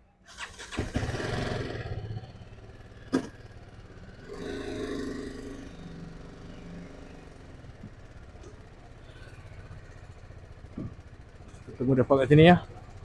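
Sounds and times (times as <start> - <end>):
motorcycle engine running: 0.4 - 13.0.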